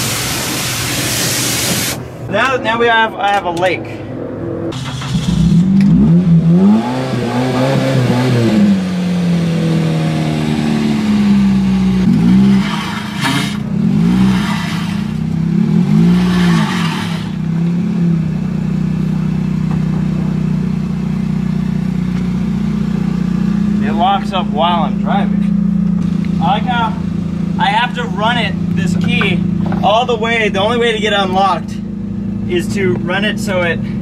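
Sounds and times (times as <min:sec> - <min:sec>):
car engine revving and idling: 0:00.0 - 0:34.0.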